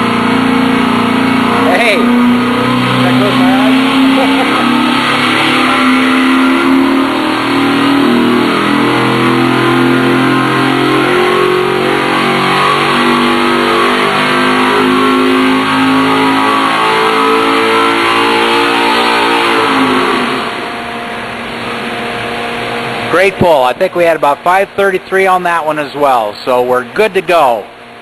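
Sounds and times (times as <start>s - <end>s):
engine revving under load: 0.0s - 28.0s.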